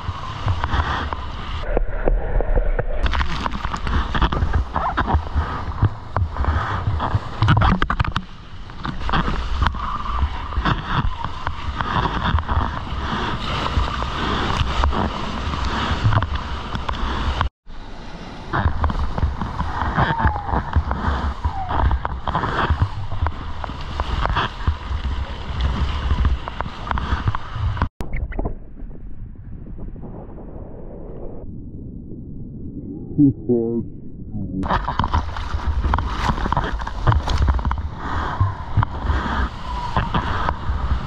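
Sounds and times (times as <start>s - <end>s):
water rushing and splashing: 0.0s - 28.5s, 34.6s - 41.0s.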